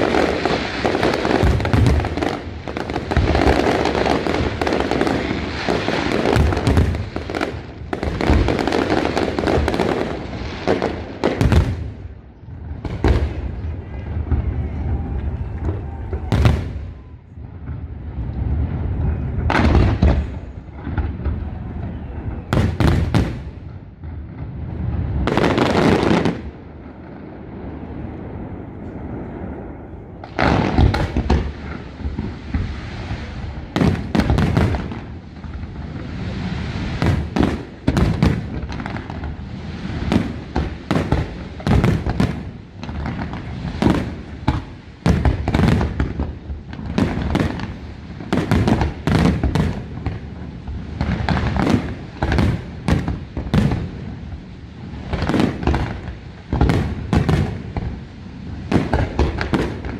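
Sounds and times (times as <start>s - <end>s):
fireworks booming: 0.0s - 59.9s.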